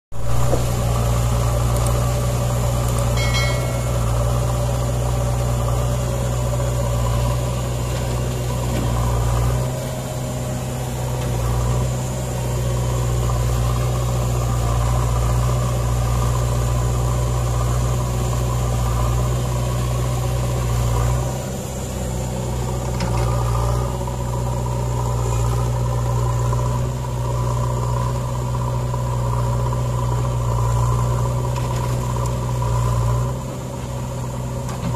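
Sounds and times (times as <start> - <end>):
backhoe loader running: 0.1 - 34.9
tractor diesel engine idling: 0.2 - 34.9.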